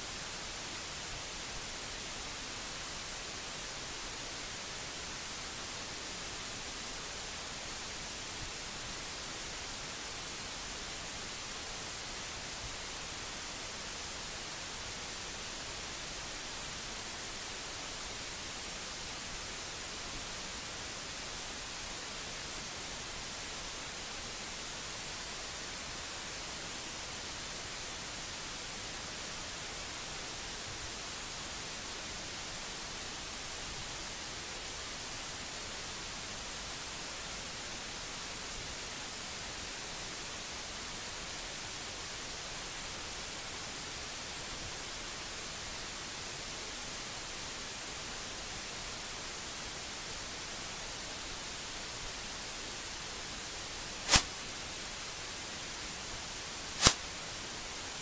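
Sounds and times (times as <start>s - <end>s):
microphone hiss: 0.0s - 58.0s.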